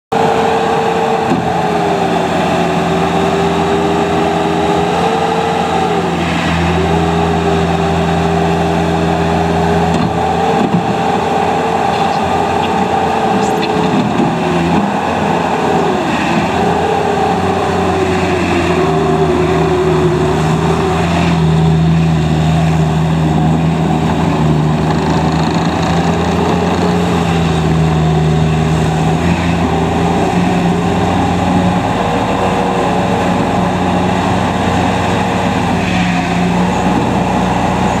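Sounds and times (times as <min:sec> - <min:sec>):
diesel engine running: 0:00.0 - 0:38.0
machine whine dipping in pitch: 0:00.1 - 0:38.0.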